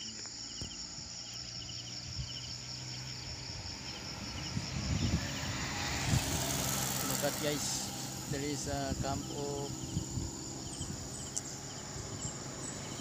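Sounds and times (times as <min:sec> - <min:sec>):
insects buzzing and chirping: 0:00.0 - 0:13.0
low vehicle engine hum: 0:00.0 - 0:13.0.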